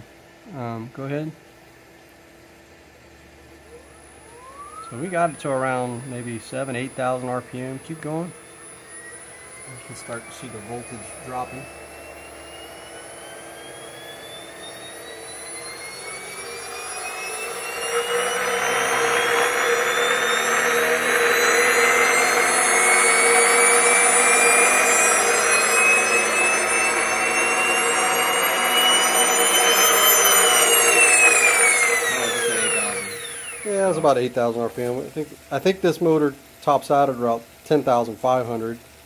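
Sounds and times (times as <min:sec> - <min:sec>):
electric motor whine: 0:03.2 - 0:36.3.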